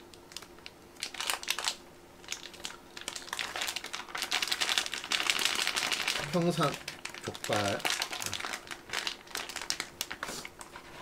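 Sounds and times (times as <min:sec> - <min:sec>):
plastic bag crinkling: 0:00.3 - 0:11.0.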